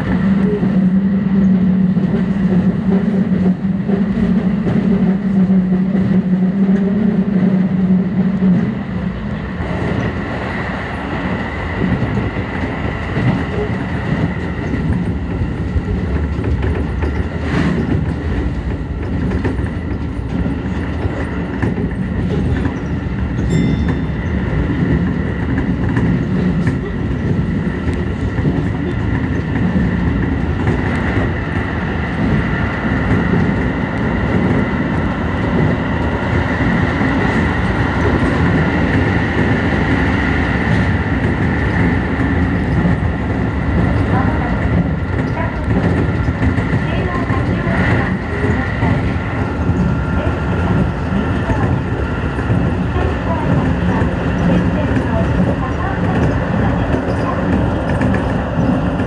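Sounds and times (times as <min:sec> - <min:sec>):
train hum: 0:00.0 - 0:59.0
train wheels rolling on rails: 0:00.0 - 0:59.0.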